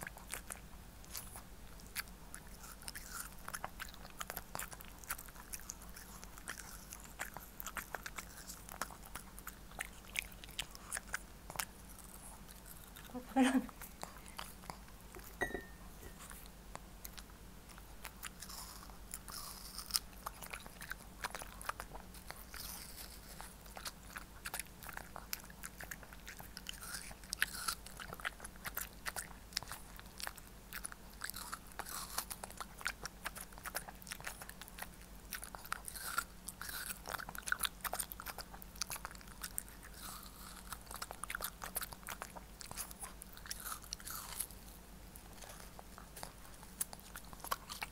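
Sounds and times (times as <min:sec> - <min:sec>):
dog chewing watermelon: 0:00.0 - 0:47.9.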